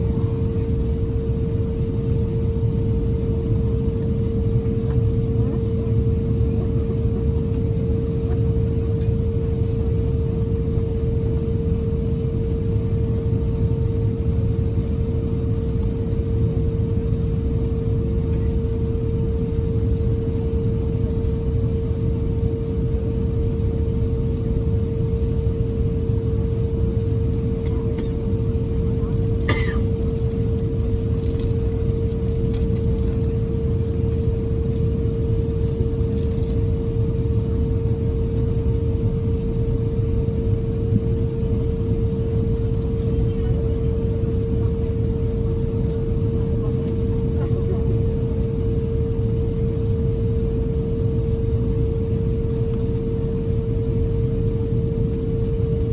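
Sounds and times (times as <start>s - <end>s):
aircraft cabin engine rumble: 0.0s - 55.9s.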